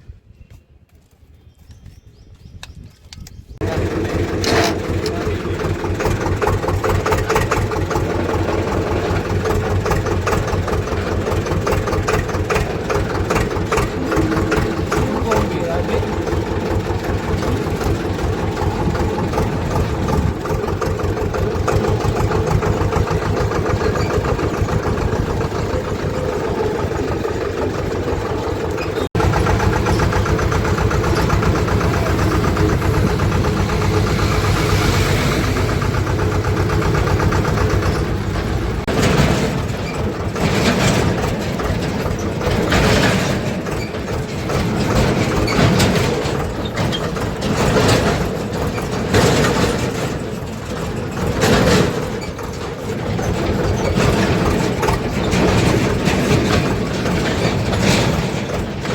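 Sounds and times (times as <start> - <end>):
tractor diesel engine throbbing: 3.6 - 58.9.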